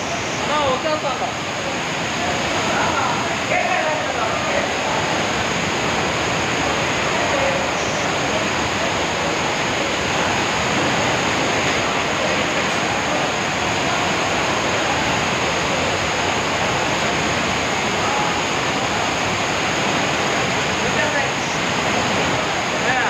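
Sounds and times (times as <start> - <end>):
water rushing across floor: 0.0 - 23.0
waterfall pouring: 0.0 - 23.0.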